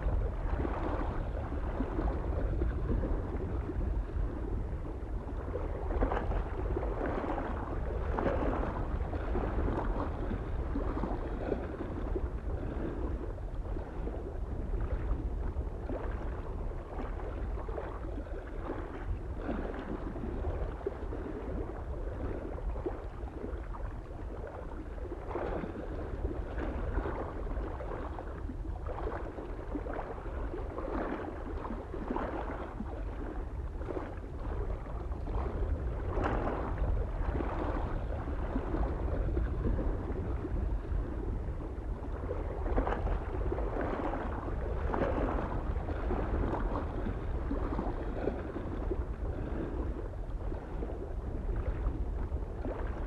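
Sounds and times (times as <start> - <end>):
small waves lapping on shore: 0.0 - 53.0
wind rumble on microphone: 0.0 - 53.0.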